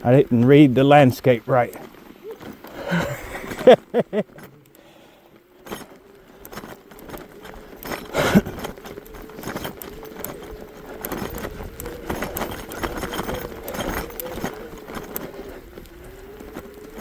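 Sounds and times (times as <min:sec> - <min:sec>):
bike rattling and knocking: 0:00.0 - 0:04.9, 0:05.5 - 0:17.0
electric motor whine: 0:00.0 - 0:17.0
tyres crunching in snow: 0:00.0 - 0:17.0.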